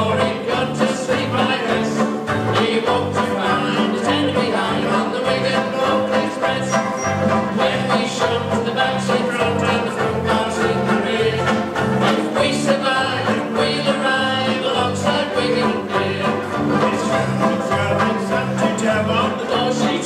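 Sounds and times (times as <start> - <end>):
banjo ukuleles strummed: 0.0 - 20.0
voices singing together: 0.0 - 20.0.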